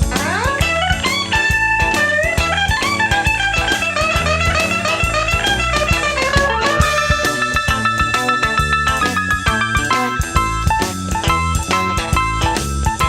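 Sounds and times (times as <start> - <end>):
bass: 0.0 - 13.0
lead guitar quick runs: 0.0 - 13.0
steady drum beat: 0.0 - 13.0.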